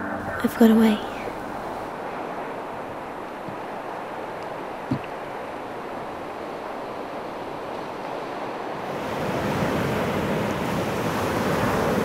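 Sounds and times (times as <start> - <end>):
ocean surf breaking on beach: 1.3 - 12.0.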